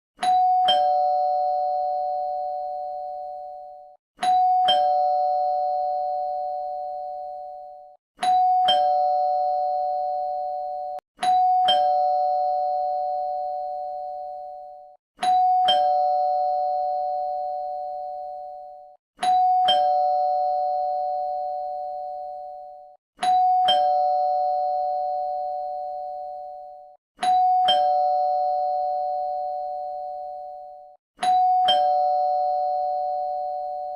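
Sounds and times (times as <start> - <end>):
two-tone doorbell chime: 0.2 - 33.9.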